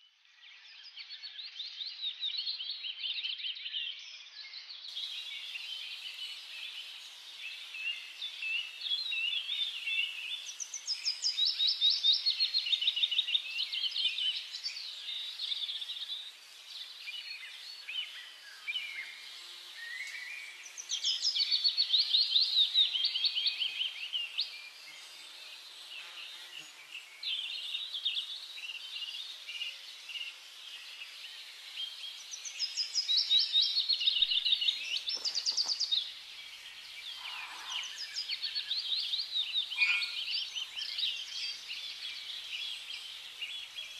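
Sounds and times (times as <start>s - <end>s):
birds chirping in trills: 4.9s - 43.9s.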